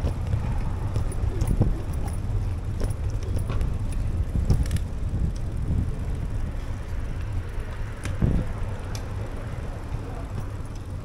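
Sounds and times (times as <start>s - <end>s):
bicycle road noise: 0.0s - 11.0s
light clicks and rattles: 0.0s - 11.0s
wind rumble on microphone: 0.0s - 11.0s.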